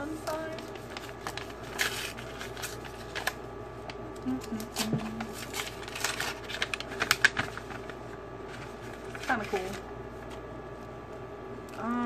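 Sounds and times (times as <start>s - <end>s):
paper and plastic packaging crinkling: 0.0s - 10.5s.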